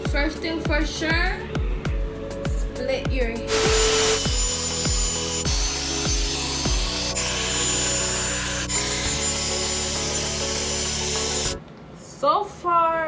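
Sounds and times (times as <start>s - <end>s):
held bass line: 0.2s - 11.6s.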